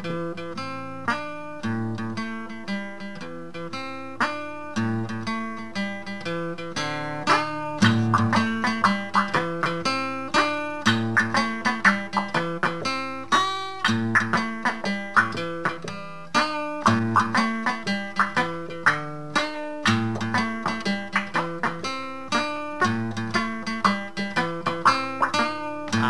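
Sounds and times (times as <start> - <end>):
picked guitar notes: 0.0 - 26.0.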